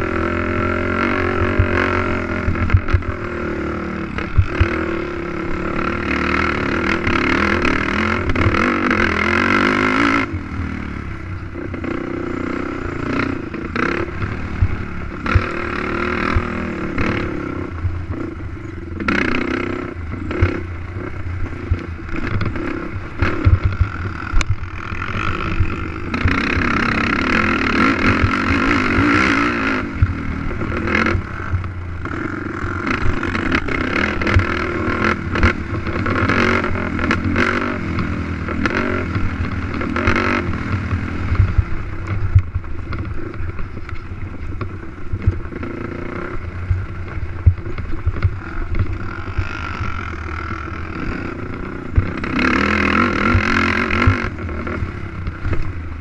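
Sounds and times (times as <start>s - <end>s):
knocks and rattles over rough ground: 0.0s - 10.2s, 13.0s - 56.0s
quad engine revving hard: 0.0s - 18.4s, 19.0s - 42.2s, 48.2s - 55.7s.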